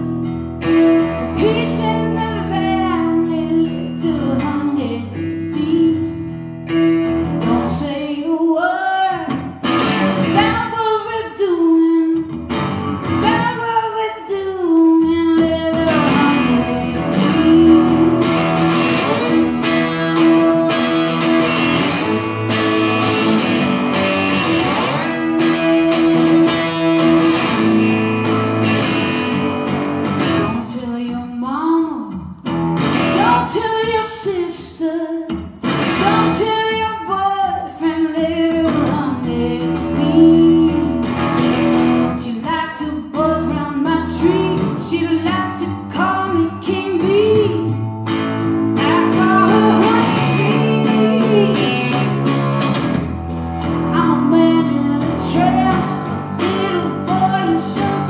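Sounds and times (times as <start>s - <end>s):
electric guitar chords: 0.0s - 58.0s
woman singing: 1.0s - 6.5s, 7.1s - 23.3s, 30.2s - 41.3s, 41.9s - 52.3s, 53.8s - 58.0s.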